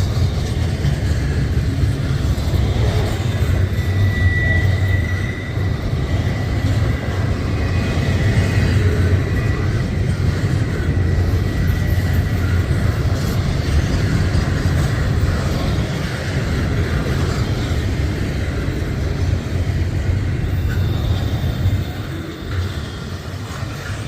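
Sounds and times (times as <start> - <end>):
train passing rumble: 0.0 - 24.0.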